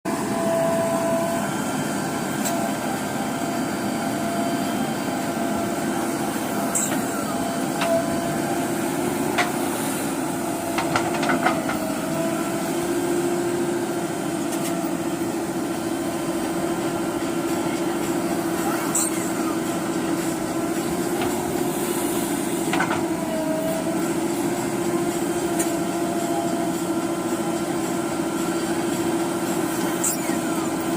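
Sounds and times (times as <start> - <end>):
diesel engine running: 0.1 - 30.9.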